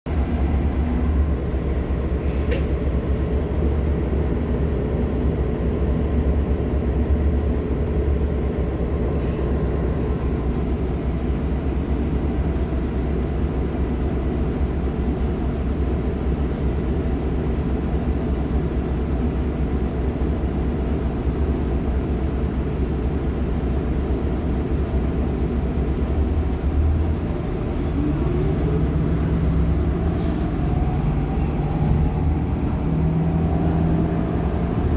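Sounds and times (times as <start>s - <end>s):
bus engine droning: 0.1s - 34.9s.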